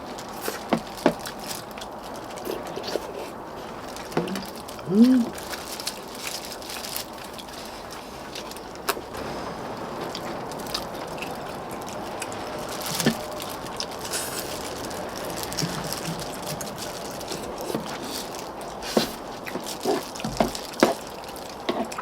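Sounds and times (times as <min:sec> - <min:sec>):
chewing and handling food: 0:00.0 - 0:22.0
steady background hiss: 0:00.0 - 0:22.0.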